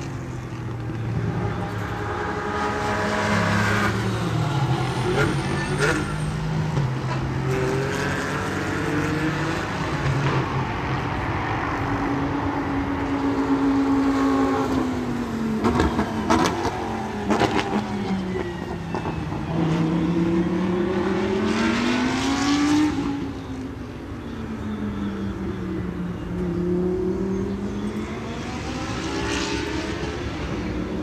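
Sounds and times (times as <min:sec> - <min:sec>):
racing car engines: 0:00.0 - 0:31.0.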